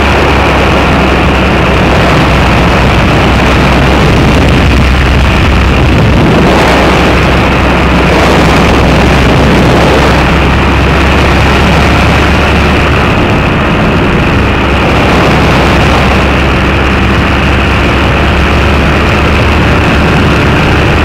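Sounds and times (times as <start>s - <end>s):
ultralight aircraft engine drone: 0.0s - 21.0s
wind rushing over microphone: 0.0s - 21.0s.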